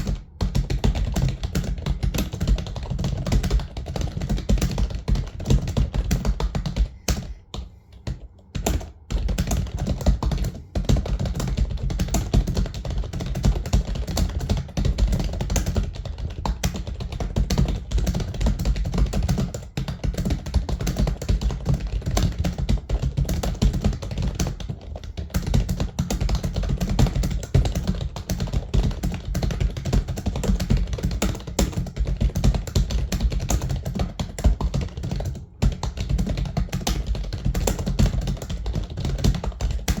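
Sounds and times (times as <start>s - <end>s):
fast keyboard typing: 0.0s - 40.0s.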